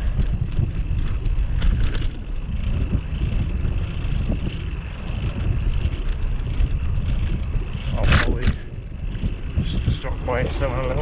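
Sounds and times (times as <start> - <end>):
bicycle rolling rumble: 0.0 - 11.0
wind buffeting microphone: 0.0 - 11.0.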